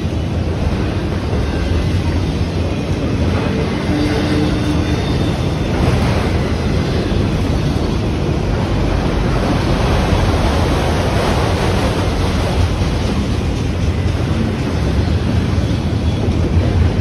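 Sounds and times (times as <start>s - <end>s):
freight train wheels roaring on rail: 0.0s - 17.0s.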